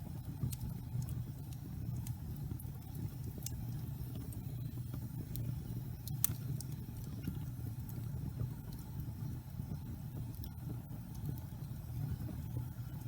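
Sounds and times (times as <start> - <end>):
logs crackling and popping: 0.0 - 13.0
low rumble of flames: 0.0 - 13.0.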